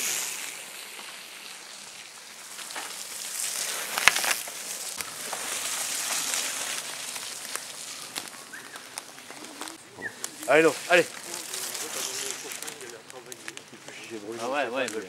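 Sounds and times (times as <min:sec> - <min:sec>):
bike tyres rolling through mud: 0:00.0 - 0:15.0.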